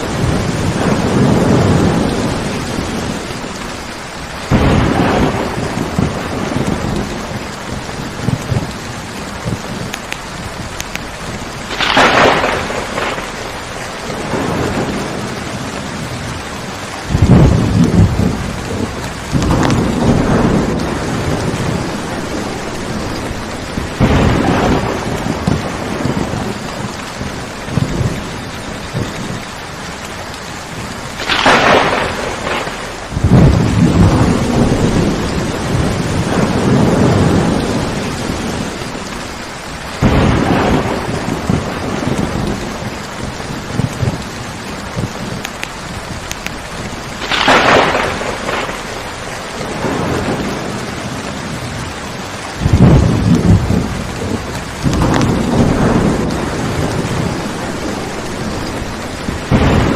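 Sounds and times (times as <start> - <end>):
steady rain: 0.0 - 59.9
thunder cracks and rolls: 0.0 - 59.9.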